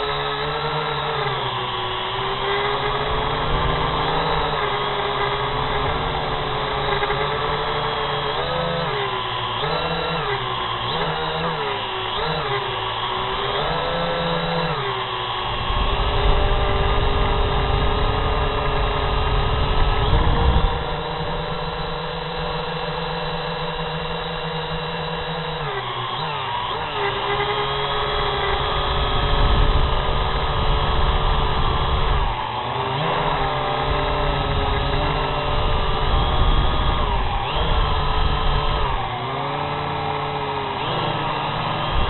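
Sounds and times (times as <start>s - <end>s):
drone motors whining: 0.0s - 42.0s.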